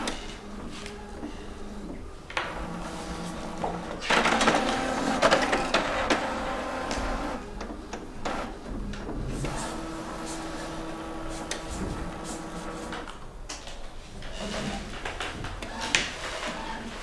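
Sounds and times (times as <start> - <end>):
inkjet printer printing: 0.0 - 13.2, 14.2 - 17.0.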